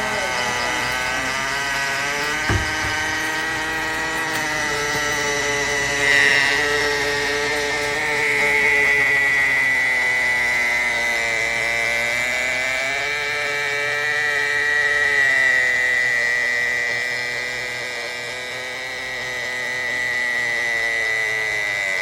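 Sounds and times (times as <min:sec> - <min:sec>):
ice maker motor whirring: 0:00.0 - 0:22.0.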